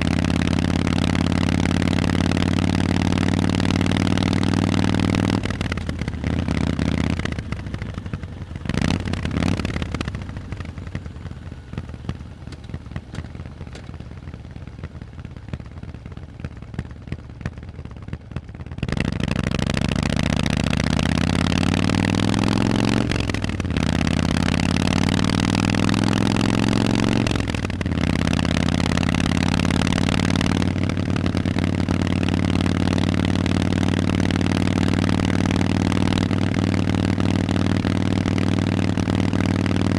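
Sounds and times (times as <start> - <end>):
motorcycle engine accelerating: 0.0 - 39.9
exhaust popping: 0.2 - 39.9.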